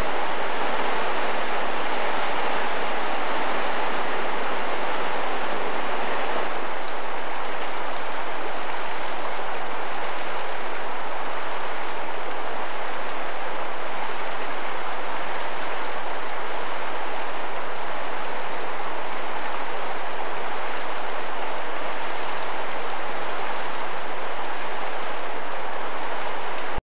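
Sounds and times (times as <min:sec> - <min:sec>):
creek water rushing over rocks: 0:00.0 - 0:26.8.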